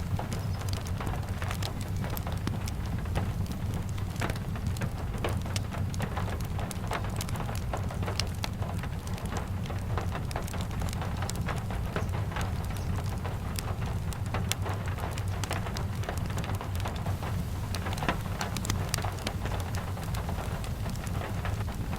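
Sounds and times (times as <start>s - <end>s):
steady rain: 0.0s - 21.9s
wood fire crackling: 0.0s - 21.9s.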